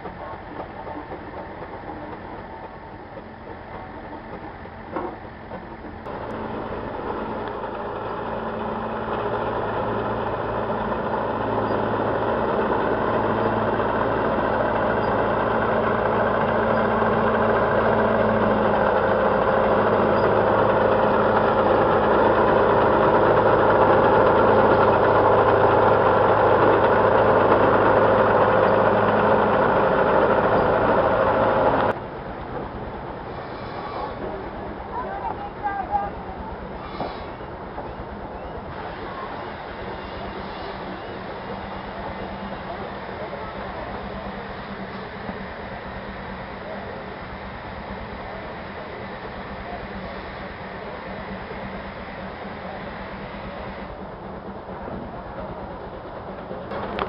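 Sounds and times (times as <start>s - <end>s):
large engine running: 0.0s - 57.0s.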